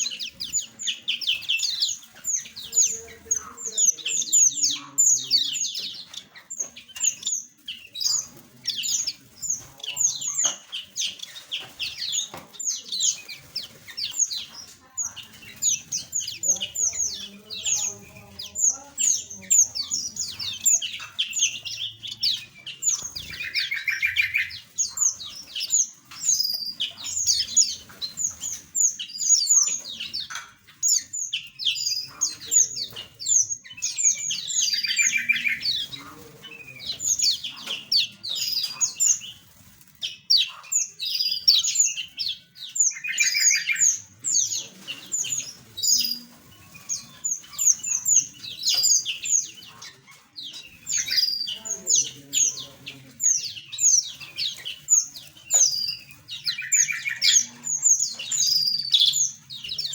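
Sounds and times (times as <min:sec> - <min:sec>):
buzzy bird trill: 0:00.0 - 0:59.9
small birds chirping and singing: 0:00.0 - 0:59.9.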